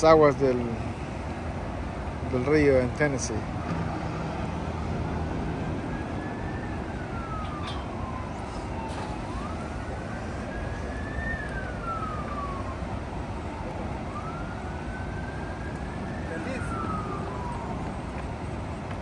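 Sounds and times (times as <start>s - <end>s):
rushing background noise: 0.0s - 19.0s
siren wailing: 0.8s - 19.0s.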